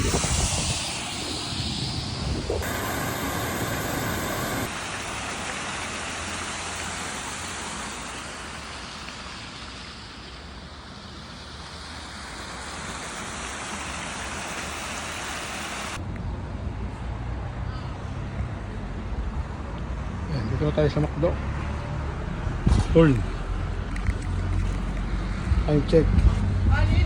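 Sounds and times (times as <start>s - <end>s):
passing traffic: 0.0s - 27.0s
rushing road noise: 0.0s - 27.0s.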